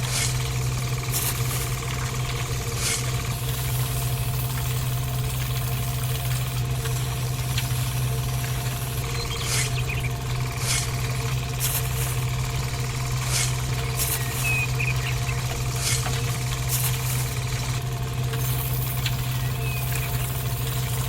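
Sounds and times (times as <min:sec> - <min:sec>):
small motor humming: 0:00.0 - 0:21.0.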